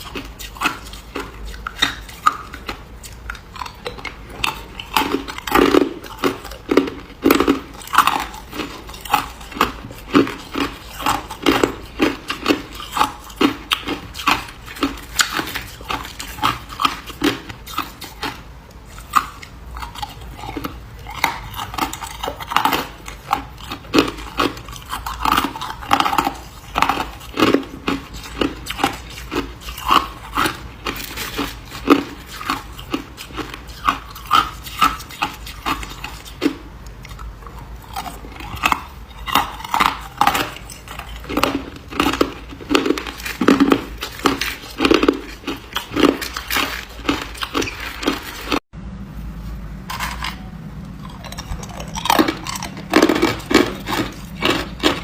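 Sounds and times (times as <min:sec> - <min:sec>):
person chewing ice: 0:00.0 - 0:48.7, 0:49.9 - 0:55.0.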